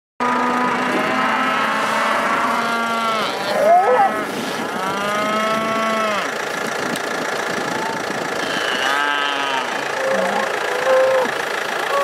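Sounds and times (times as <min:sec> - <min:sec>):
bull bellowing: 0:00.2 - 0:06.4, 0:07.8 - 0:12.0.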